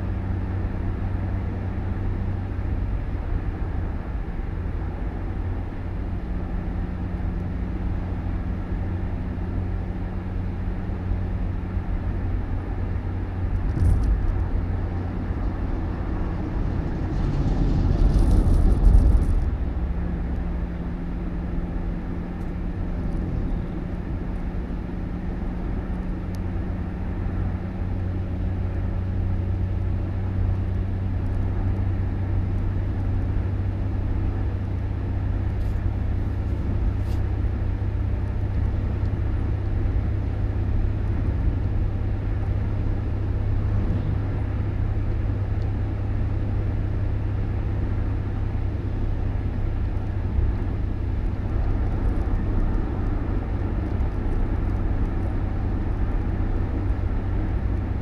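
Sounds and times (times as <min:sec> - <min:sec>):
motor vehicle rumbling: 0:00.0 - 0:58.0.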